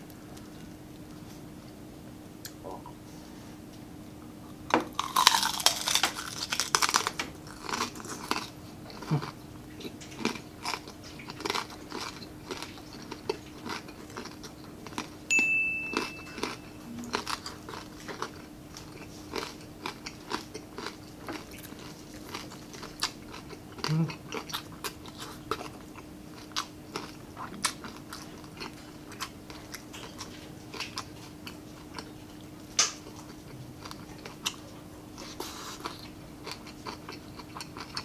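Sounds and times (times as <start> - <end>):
crunchy biting and chewing: 4.9 - 15.2, 16.2 - 38.0.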